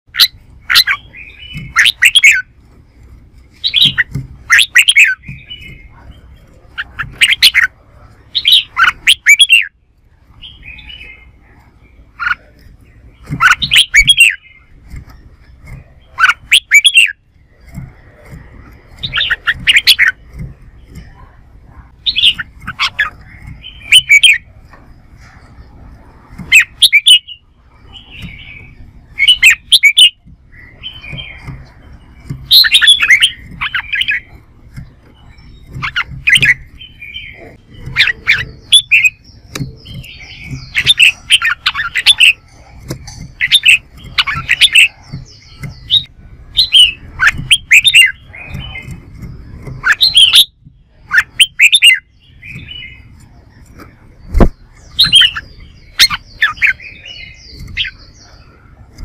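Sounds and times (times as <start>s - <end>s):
bulbul singing whistled phrases: 0.2s - 2.5s, 3.6s - 7.7s, 8.3s - 9.8s, 13.2s - 15.0s, 15.6s - 17.2s, 18.9s - 24.5s, 26.5s - 58.7s.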